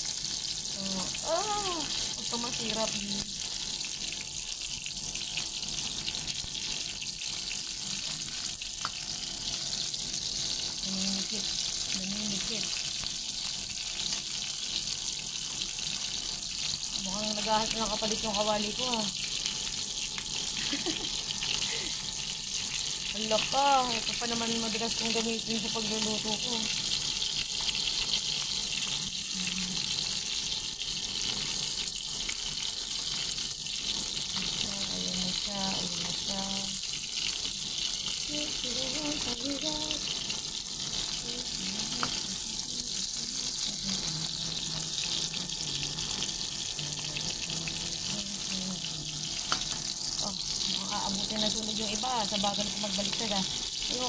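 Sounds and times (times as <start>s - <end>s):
dumplings sizzling in oil: 0.0s - 54.0s.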